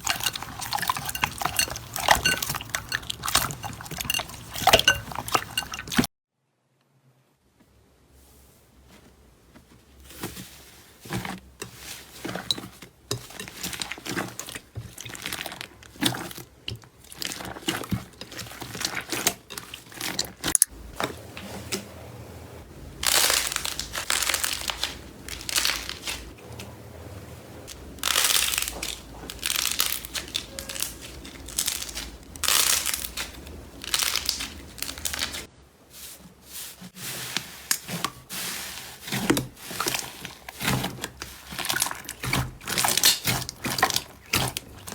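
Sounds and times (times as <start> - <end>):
slime crinkling and crackling: 0.0 - 6.1, 9.5 - 21.0, 22.7 - 26.7, 27.7 - 44.9.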